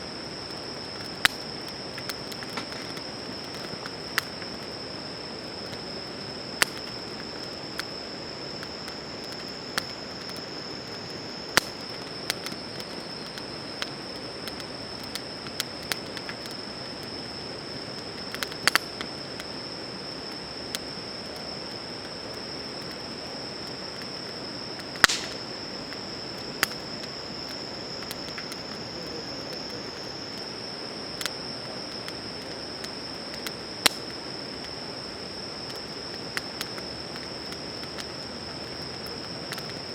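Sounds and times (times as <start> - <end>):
insects chirring: 0.0 - 39.9
wood fire crackling: 0.0 - 39.9.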